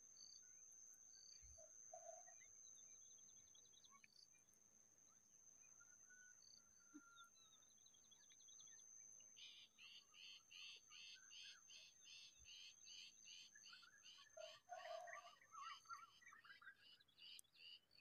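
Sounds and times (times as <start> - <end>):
faint birds: 0.0 - 18.0.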